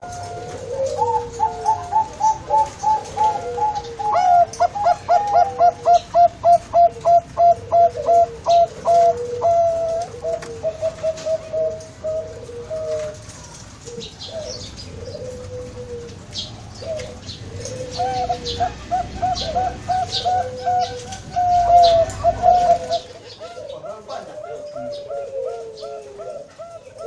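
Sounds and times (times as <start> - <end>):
dove cooing: 0.0 - 27.0.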